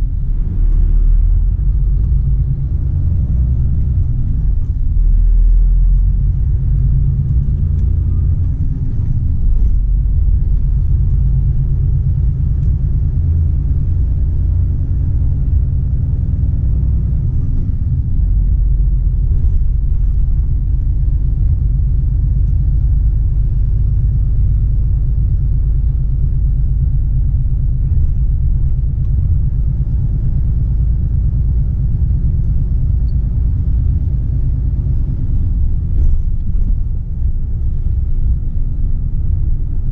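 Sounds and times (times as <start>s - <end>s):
diesel truck engine rumbling: 0.0s - 39.9s.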